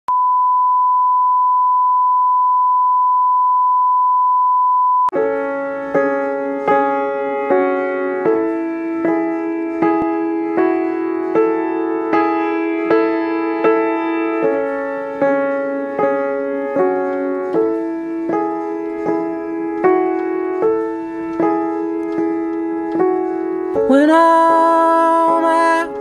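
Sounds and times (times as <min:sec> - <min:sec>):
piano chords: 0:05.1 - 0:26.0.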